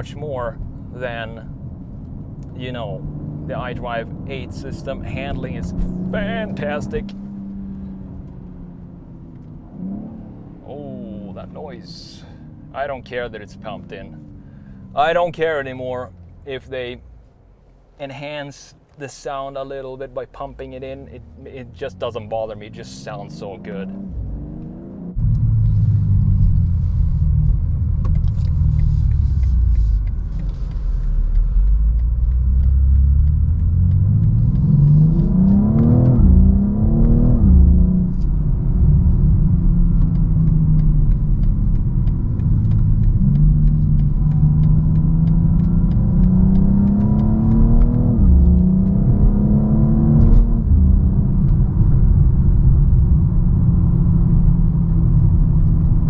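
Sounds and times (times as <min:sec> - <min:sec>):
car engine accelerating through gears: 0:00.0 - 0:17.0, 0:20.6 - 0:56.0.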